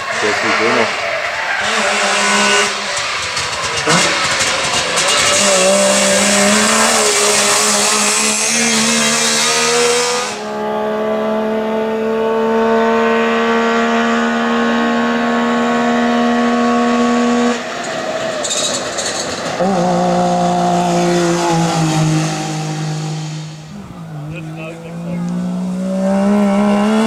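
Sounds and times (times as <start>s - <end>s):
rally car engine accelerating: 0.0s - 27.0s.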